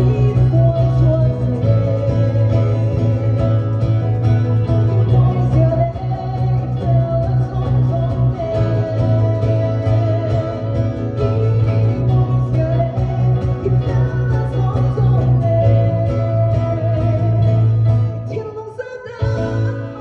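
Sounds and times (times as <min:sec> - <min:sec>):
instrumental accompaniment with bass: 0:00.0 - 0:20.0
woman singing into microphone: 0:00.0 - 0:20.0.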